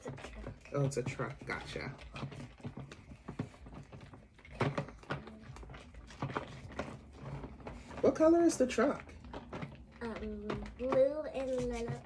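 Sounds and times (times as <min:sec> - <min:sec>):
toy truck clicking and knocking: 0:00.0 - 0:12.0.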